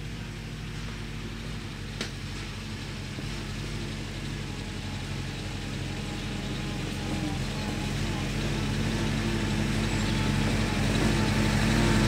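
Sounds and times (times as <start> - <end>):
jeep engine running: 0.0 - 12.0.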